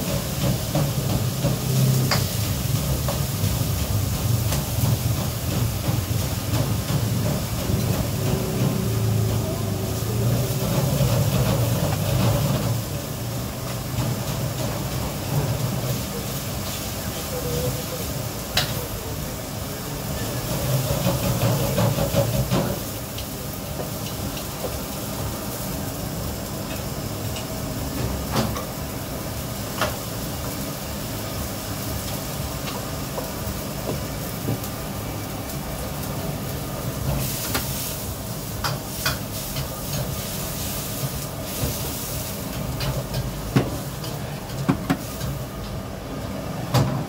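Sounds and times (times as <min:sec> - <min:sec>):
kitchen hum and hiss: 0:00.0 - 0:47.0.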